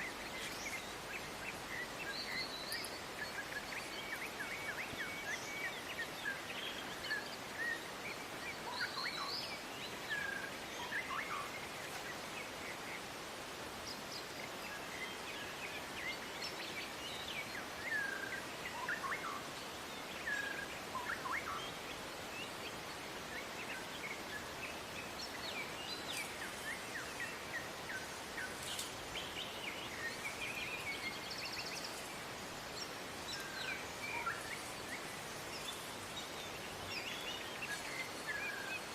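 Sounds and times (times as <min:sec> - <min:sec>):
songbirds chirping and whistling: 0:00.0 - 0:13.1, 0:13.8 - 0:38.9
steady background hiss: 0:00.0 - 0:38.9.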